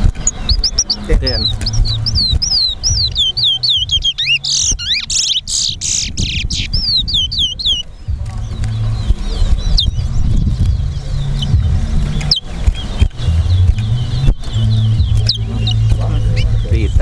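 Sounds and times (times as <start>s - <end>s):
finch whistling: 0.0s - 17.0s.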